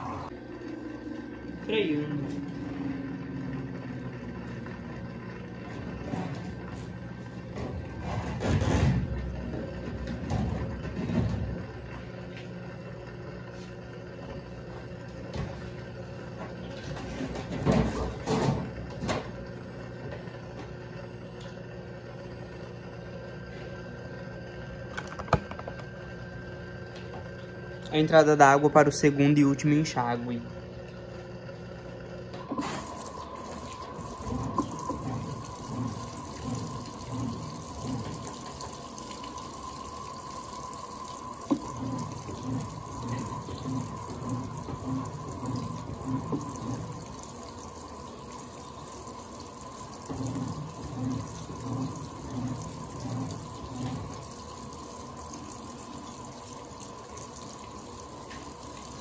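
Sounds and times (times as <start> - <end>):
water rushing into washing machine: 0.0 - 30.4, 31.6 - 59.0.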